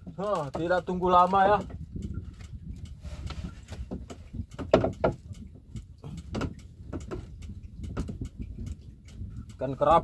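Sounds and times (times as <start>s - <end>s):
fishing line knocking against boat: 0.0s - 10.0s
low steady rumble: 0.7s - 10.0s.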